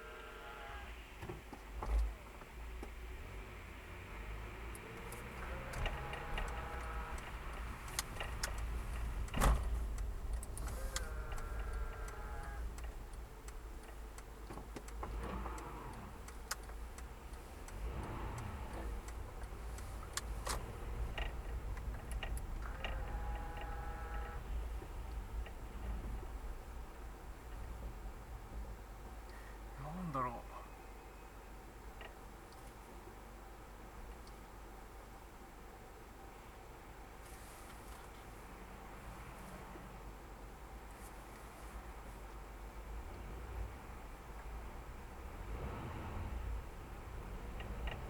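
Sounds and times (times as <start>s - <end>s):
road rumble in car: 0.0s - 48.0s.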